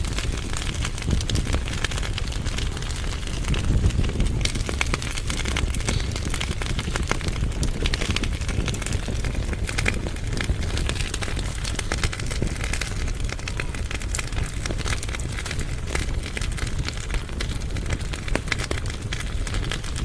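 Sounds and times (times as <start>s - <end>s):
fire low rumble: 0.0s - 20.0s
firewood crackling and popping: 0.0s - 20.0s.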